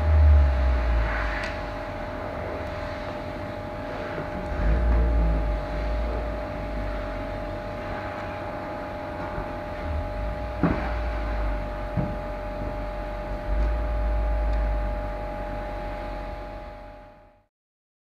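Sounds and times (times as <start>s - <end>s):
low rumble with hum: 0.0s - 17.5s.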